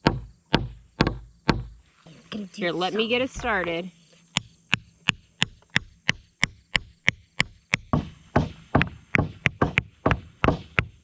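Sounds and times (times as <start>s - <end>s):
hammer striking a stake: 0.0s - 1.8s, 3.4s - 11.0s.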